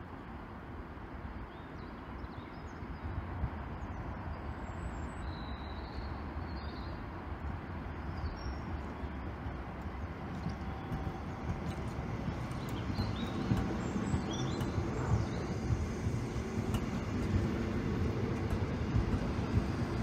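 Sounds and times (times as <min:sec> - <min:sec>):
train wheels rumbling on rail: 0:02.7 - 0:20.0.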